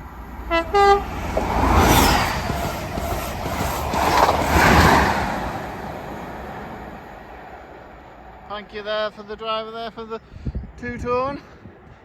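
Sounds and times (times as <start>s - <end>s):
train wheels rumbling on rail: 0.0s - 10.1s.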